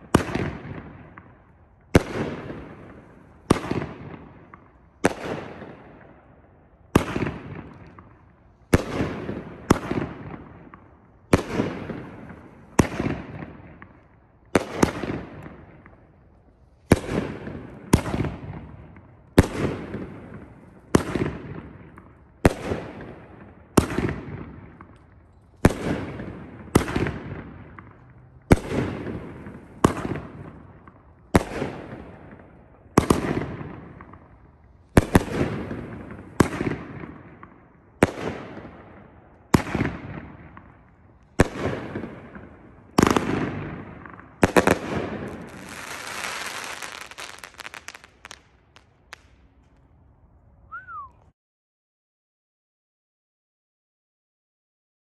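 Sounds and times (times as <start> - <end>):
firework bangs with echo: 0.0 - 6.1, 6.9 - 16.0, 16.9 - 49.3.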